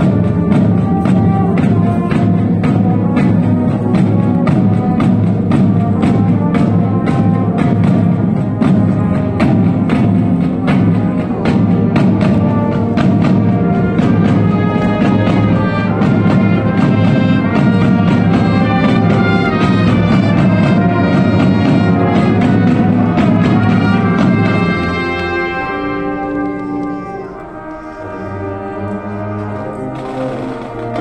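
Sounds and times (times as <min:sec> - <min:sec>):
brass horns holding chords: 0:00.0 - 0:31.0
percussion strikes: 0:00.0 - 0:31.0.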